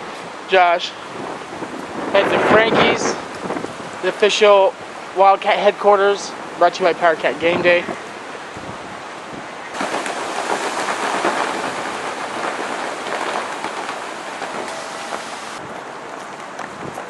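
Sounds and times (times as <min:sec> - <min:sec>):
gusty wind through leaves: 0:00.0 - 0:17.0.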